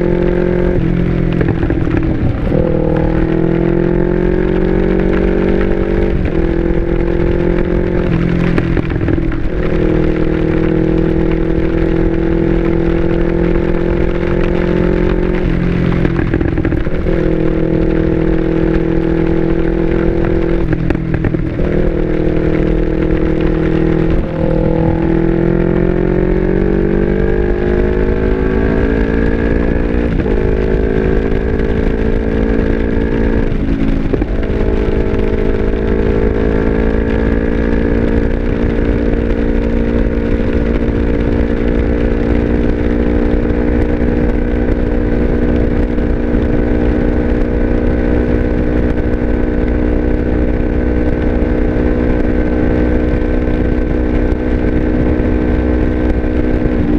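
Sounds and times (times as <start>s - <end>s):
motorcycle engine revving: 0.0s - 56.9s
wind rumble on microphone: 0.0s - 56.9s.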